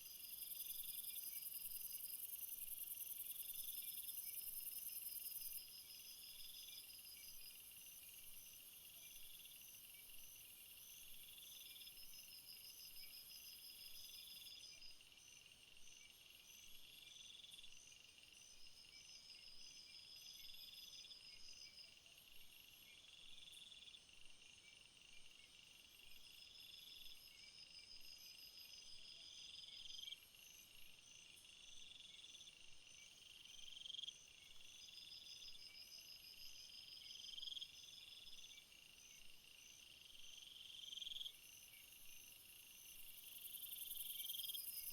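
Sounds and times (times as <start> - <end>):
insect chorus chirping: 0.0 - 44.9.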